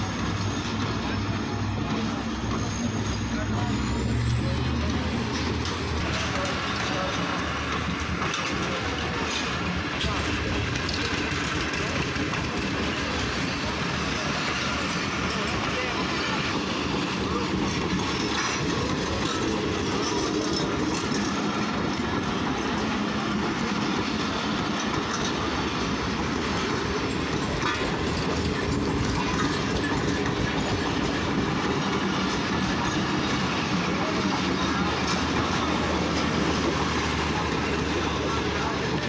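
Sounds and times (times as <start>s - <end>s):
train wheels rumbling on track: 0.0s - 39.0s
wheels clicking over rail joints: 0.0s - 39.0s.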